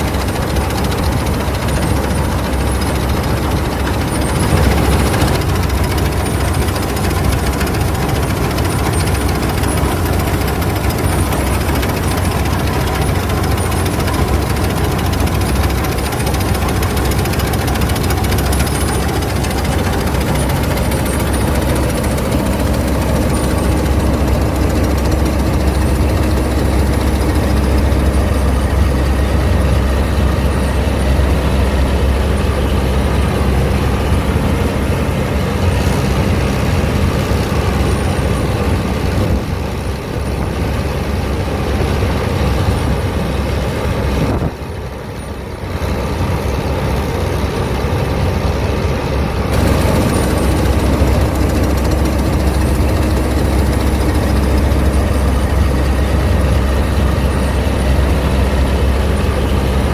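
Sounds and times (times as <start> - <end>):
combine harvester machinery running: 0.0 - 59.9.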